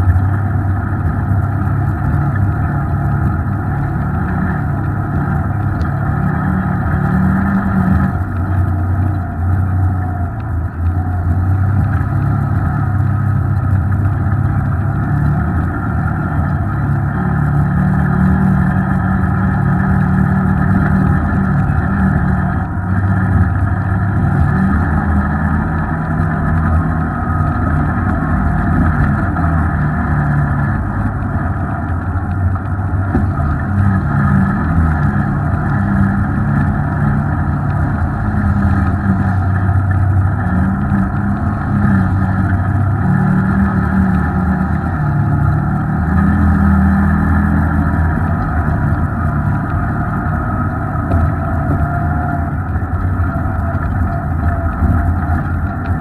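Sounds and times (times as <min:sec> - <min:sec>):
muffled off-road vehicle engine: 0:00.0 - 0:56.0.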